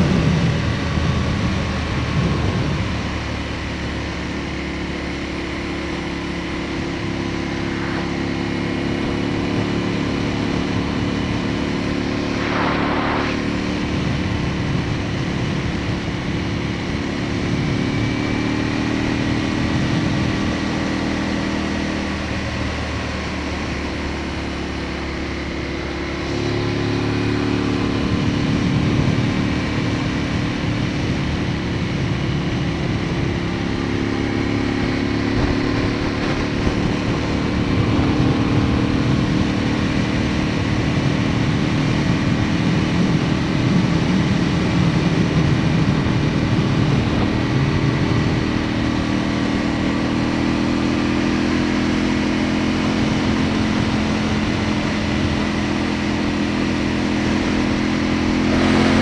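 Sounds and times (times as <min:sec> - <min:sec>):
wind noise: 0:00.0 - 0:03.8, 0:05.8 - 0:22.8, 0:25.8 - 0:59.0
motorcycle engine running: 0:00.0 - 0:59.0
road noise: 0:00.0 - 0:59.0.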